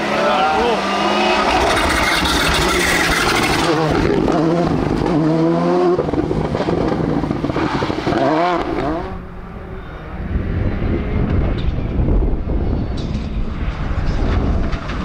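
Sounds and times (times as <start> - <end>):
distant rally car engine drone: 0.0 - 15.0
rally car engine revving: 0.0 - 15.0.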